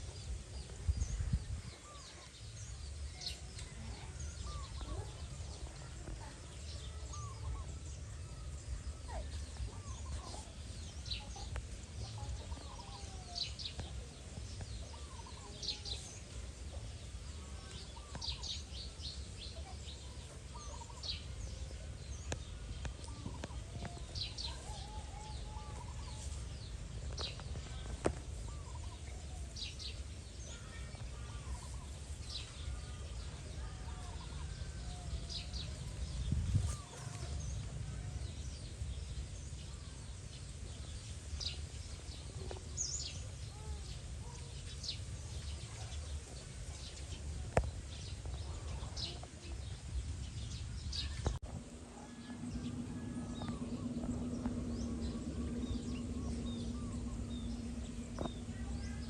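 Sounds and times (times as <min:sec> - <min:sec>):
birds chirping: 0:00.0 - 0:59.0
steady low rumble: 0:00.0 - 0:59.0.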